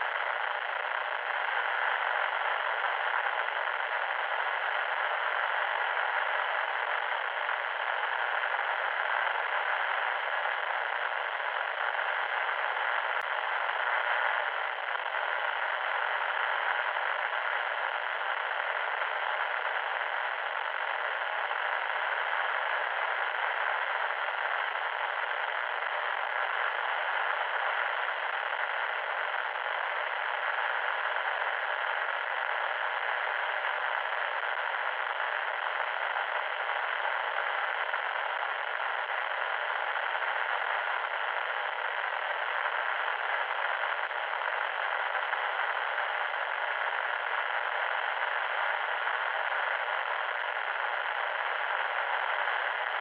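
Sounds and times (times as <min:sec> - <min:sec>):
static hiss: 0:00.0 - 0:53.0.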